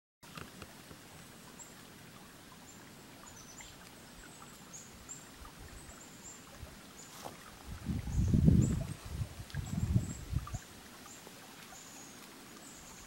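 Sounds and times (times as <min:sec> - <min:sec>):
background hiss: 0:00.2 - 0:13.0.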